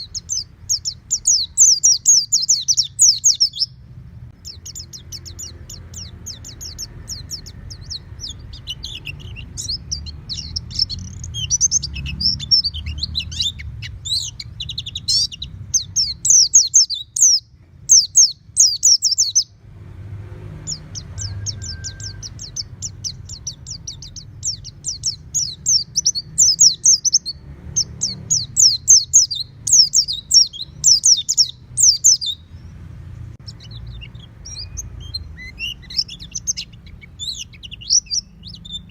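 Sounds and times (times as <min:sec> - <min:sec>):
bird twittering song: 0:00.0 - 0:19.6, 0:20.4 - 0:38.9.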